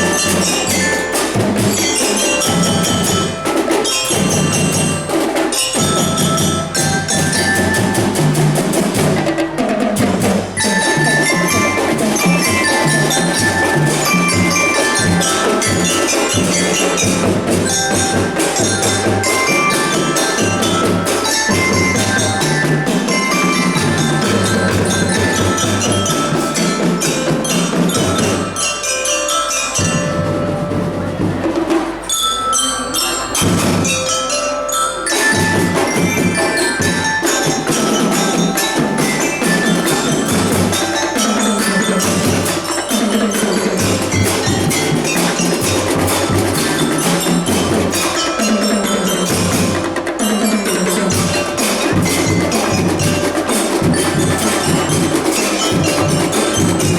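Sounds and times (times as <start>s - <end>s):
bell lyra melody: 0.0s - 56.9s
drums: 0.0s - 56.9s
wood block: 0.0s - 56.9s.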